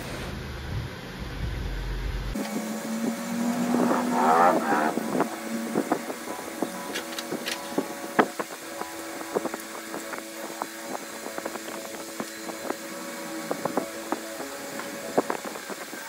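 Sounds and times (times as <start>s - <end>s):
electric pet clipper humming: 2.4s - 16.0s.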